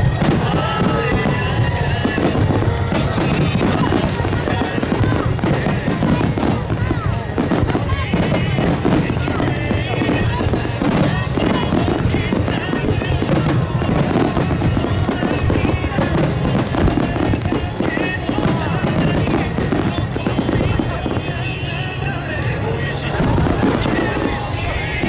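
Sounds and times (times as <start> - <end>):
fireworks bursting: 0.0 - 25.0
pop song playing: 0.0 - 25.0.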